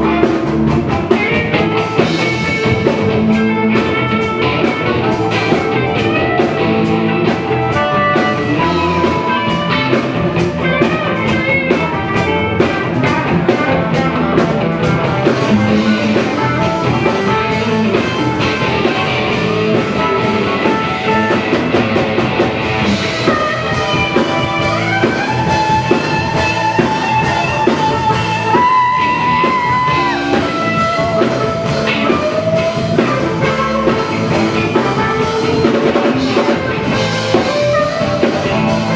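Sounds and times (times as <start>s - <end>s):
drum kit steady beat: 0.0s - 38.9s
electric guitar: 0.0s - 38.9s.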